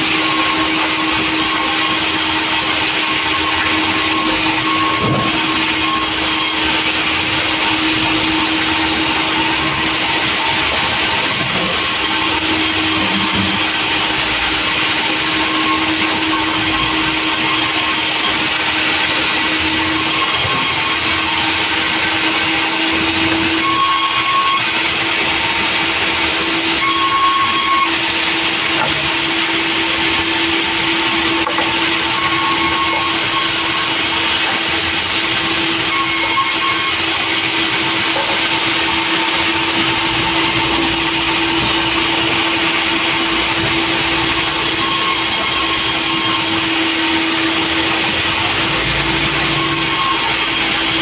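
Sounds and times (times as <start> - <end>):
saw cutting log: 0.0 - 51.0
saw squealing: 0.0 - 51.0
sawmill humming: 0.0 - 51.0.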